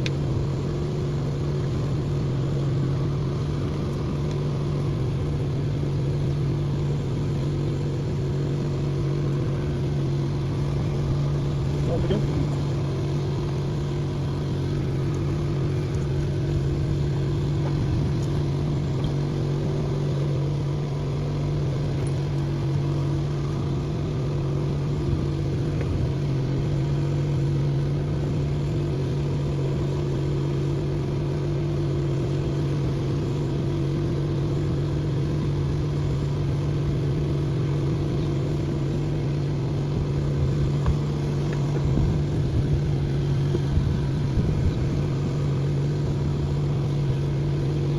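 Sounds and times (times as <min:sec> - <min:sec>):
engine droning steadily: 0:00.0 - 0:47.9.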